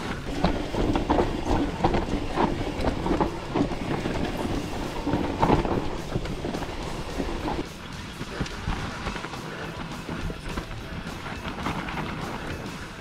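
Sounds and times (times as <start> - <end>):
bike rattling and clattering: 0.0 - 13.0.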